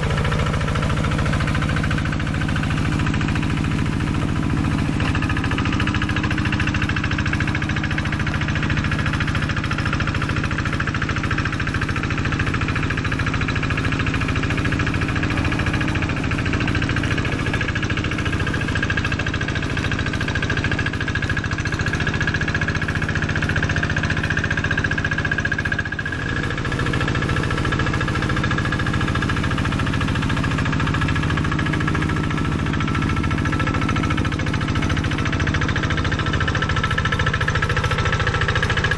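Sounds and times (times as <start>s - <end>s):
diesel engine running under load: 0.0s - 38.9s
wheels churning flooded field: 0.0s - 38.9s.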